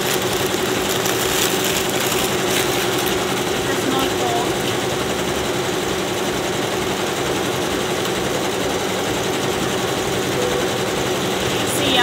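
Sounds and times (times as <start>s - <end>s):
embroidery machines humming: 0.0s - 12.0s.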